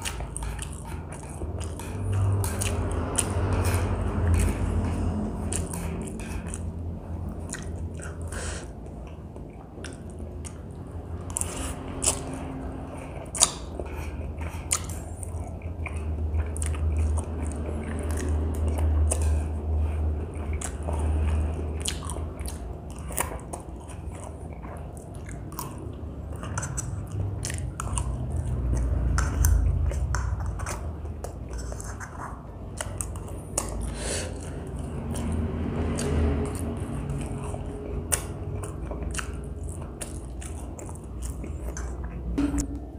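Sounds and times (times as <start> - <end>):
wet mouth clicks: 0.0 - 24.4, 25.0 - 42.9
person chewing noodles: 0.0 - 42.9.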